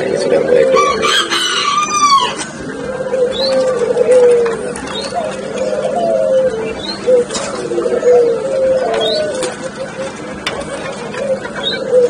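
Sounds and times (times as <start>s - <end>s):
doves cooing: 0.0s - 12.0s.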